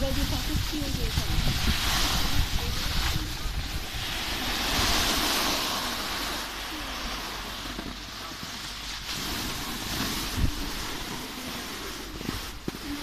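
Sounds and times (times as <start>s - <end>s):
wind buffeting the microphone: 0.0s - 8.1s, 9.1s - 13.0s
snowboard sliding over snow: 0.0s - 13.0s.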